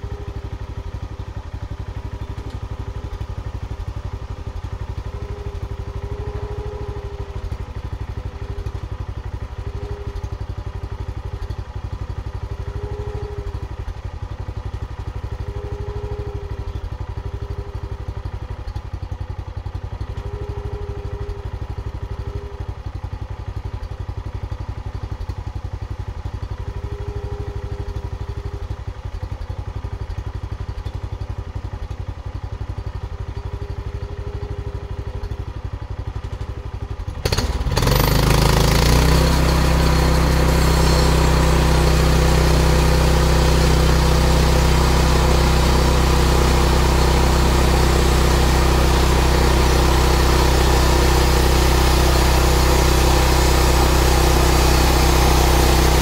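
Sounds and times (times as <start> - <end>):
gasoline engine running: 0.0 - 56.0.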